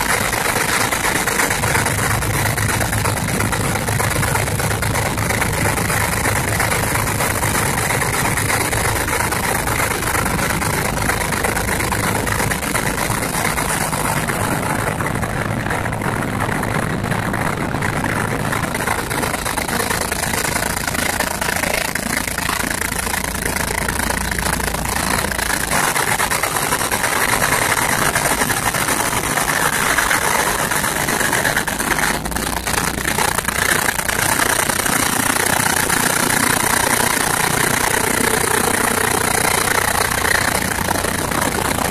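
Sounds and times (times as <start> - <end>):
boat engine running: 0.0 - 41.9
water rushing between hulls: 0.0 - 41.9.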